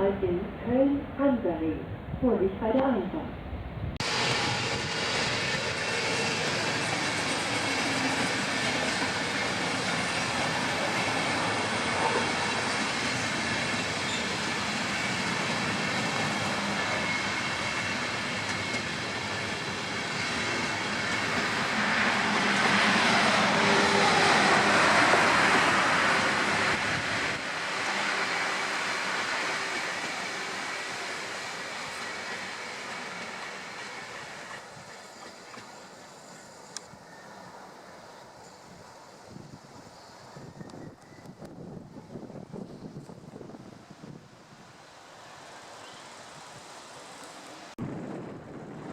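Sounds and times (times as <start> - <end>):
train wheels on rails: 4.0 - 43.8.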